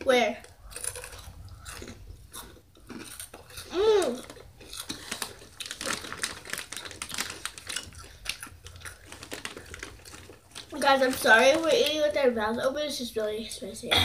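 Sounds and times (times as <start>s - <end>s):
chips being chewed crunchily: 0.4s - 12.0s.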